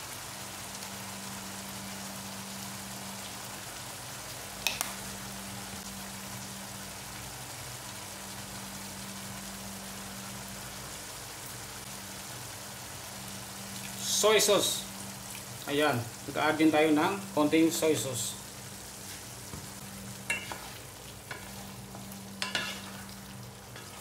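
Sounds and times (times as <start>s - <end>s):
sauce bubbling and sizzling: 0.0s - 24.0s.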